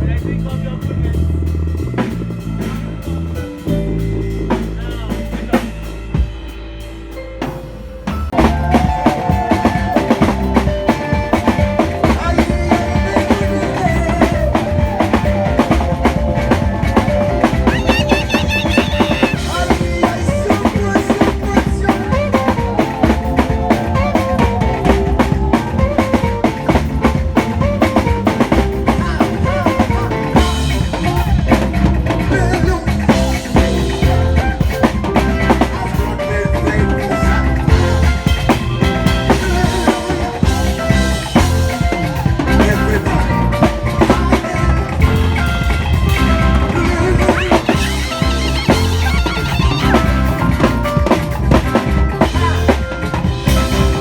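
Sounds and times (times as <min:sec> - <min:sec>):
band playing: 0:00.0 - 0:54.0
drum kit beat: 0:00.0 - 0:54.0.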